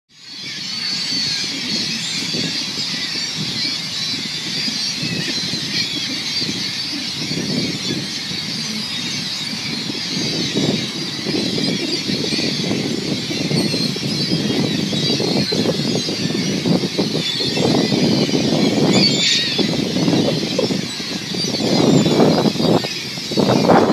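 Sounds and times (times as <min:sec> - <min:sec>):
gulls calling: 0:00.2 - 0:23.9.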